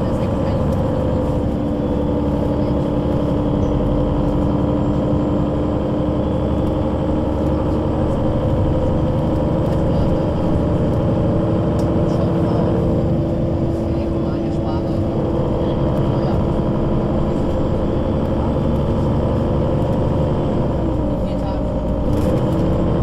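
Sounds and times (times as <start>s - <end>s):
bus engine humming: 0.0s - 23.0s.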